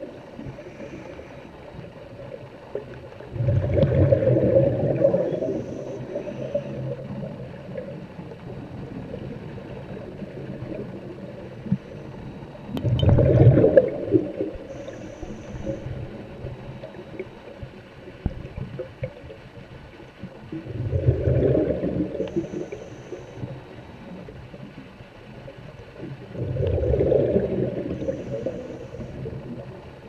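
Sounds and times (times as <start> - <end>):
water gurgling and bubbling: 0.0 - 30.0.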